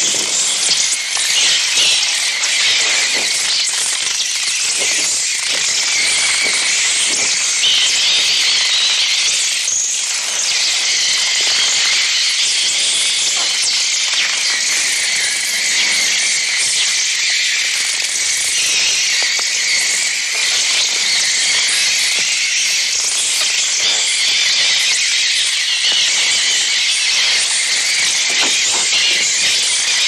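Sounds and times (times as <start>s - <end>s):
electronic bird swarm shrilling: 0.0s - 30.0s.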